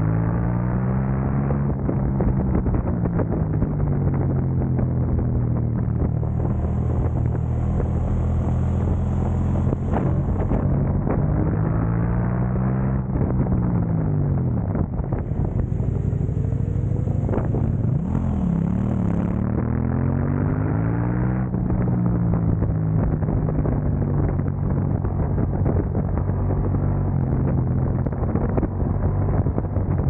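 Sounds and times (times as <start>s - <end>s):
motorcycle engine running hard: 0.0s - 30.0s.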